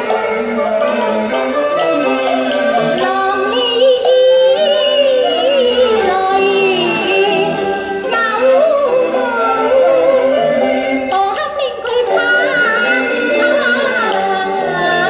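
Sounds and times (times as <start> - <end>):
person singing with instruments: 0.0 - 15.0.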